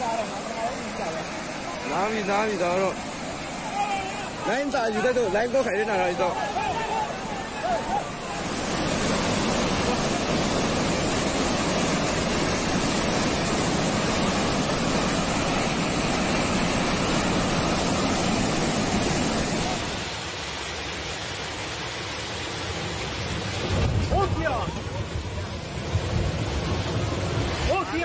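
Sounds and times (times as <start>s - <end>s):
rushing turbulent water: 0.0s - 28.0s.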